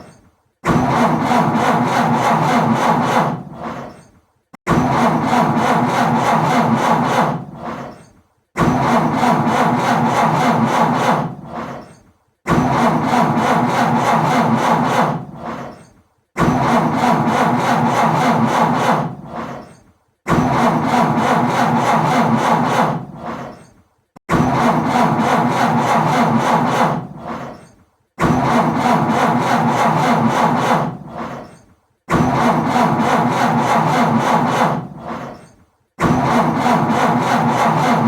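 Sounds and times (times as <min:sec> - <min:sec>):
starter motor cranking engine: 0:00.0 - 0:38.0.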